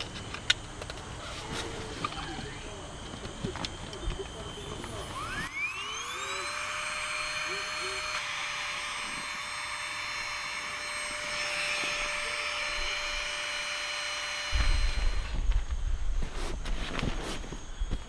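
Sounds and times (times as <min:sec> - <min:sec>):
thin high steady tones: 0:00.0 - 0:15.3.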